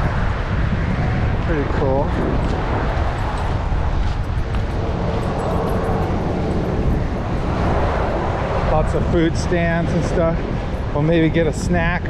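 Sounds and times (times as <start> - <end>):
highway road noise: 0.0 - 12.0.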